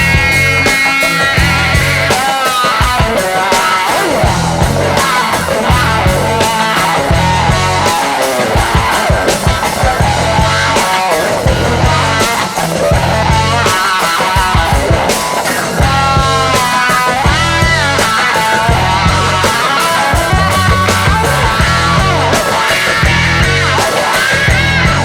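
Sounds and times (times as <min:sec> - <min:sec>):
pop-rock song with singing: 0:00.0 - 0:25.0.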